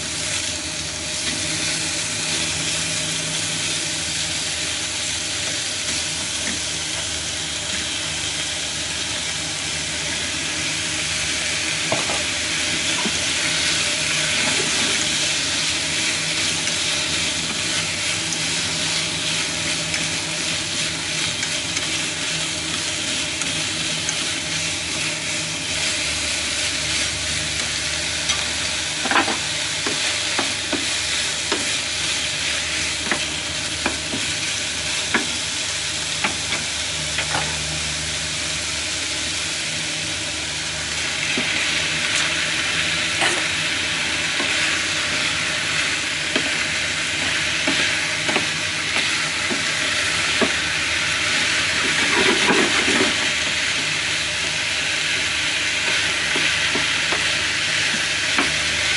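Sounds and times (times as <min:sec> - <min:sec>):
food sizzling in frying pan: 0:00.0 - 0:58.9.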